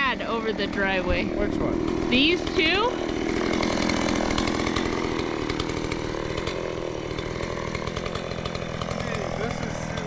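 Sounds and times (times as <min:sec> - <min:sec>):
chainsaw running: 0:00.0 - 0:10.0.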